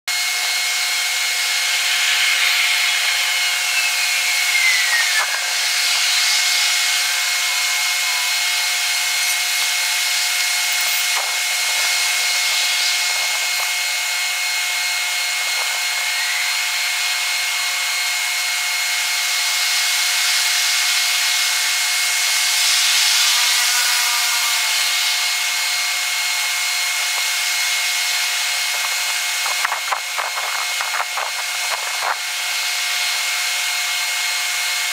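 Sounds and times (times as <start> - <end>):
high-pitched rushing hiss: 0.1 - 34.9.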